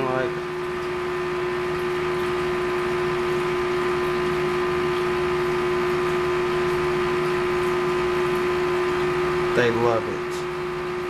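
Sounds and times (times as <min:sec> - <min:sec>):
air pump electrical hum: 0:00.0 - 0:11.0.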